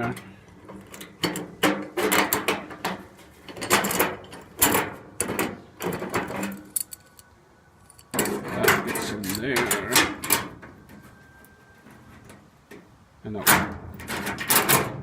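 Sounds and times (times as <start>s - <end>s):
metal parts knocking and scraping: 0.0s - 11.2s, 13.4s - 15.0s.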